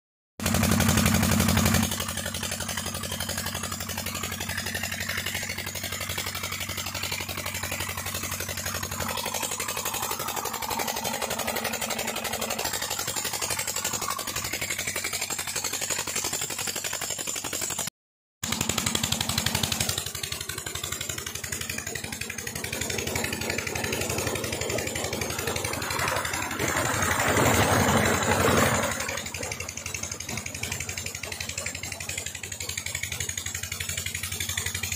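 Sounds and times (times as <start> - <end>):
diesel engine running: 0.4 - 17.8, 18.4 - 34.9.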